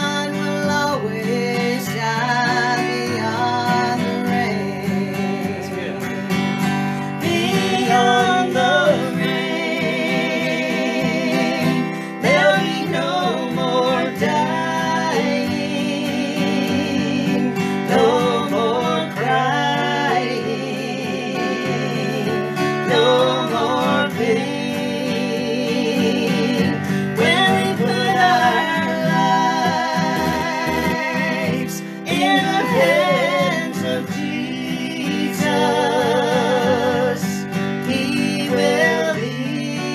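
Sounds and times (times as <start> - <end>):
man and woman singing: 0.0 - 39.9
strummed acoustic guitar: 0.0 - 39.9.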